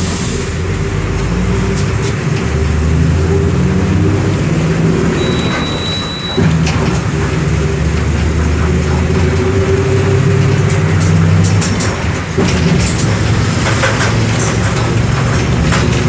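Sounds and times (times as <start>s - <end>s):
bus diesel engine under load: 0.0s - 16.0s.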